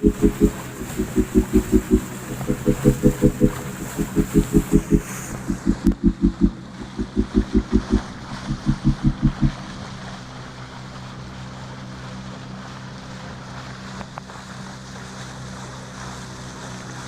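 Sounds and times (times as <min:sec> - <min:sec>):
boat engine running: 0:00.0 - 0:17.0
water noise: 0:00.0 - 0:17.0
wind: 0:00.0 - 0:17.0.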